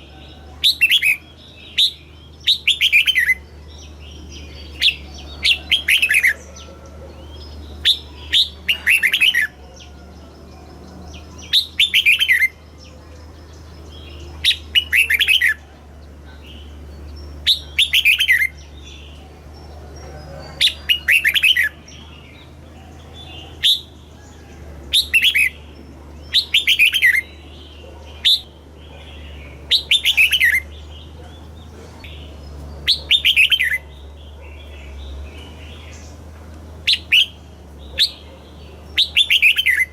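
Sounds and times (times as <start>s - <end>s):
bird singing descending notes: 0.0s - 39.9s
steady low hum: 0.0s - 39.9s.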